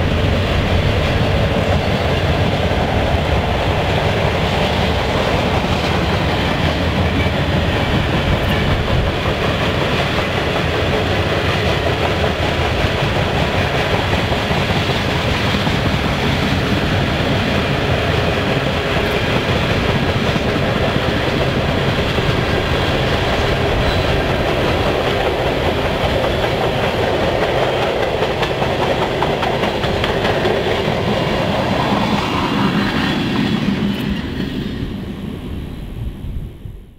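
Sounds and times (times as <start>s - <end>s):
freight train wheels rumbling: 0.0s - 36.8s.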